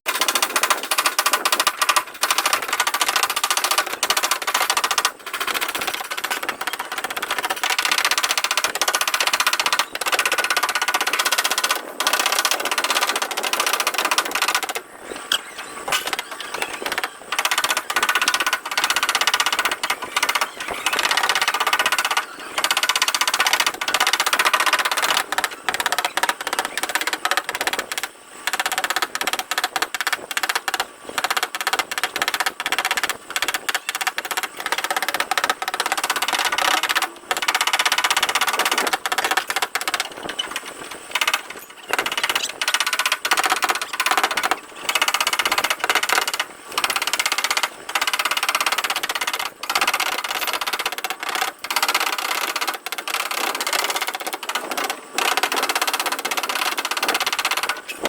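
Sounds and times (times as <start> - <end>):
rapid tapping on sheet metal: 0.1 - 14.9, 15.8 - 58.0.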